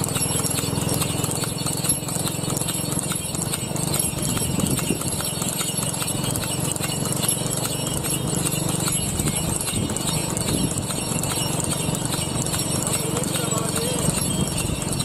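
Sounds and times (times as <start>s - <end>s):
harness bells jingling: 0.0s - 15.0s
horse hooves trotting on pavement: 0.0s - 15.0s.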